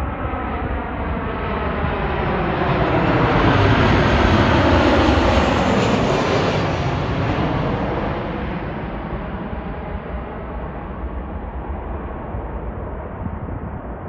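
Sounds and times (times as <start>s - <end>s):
jet airliner passing: 0.0s - 14.0s.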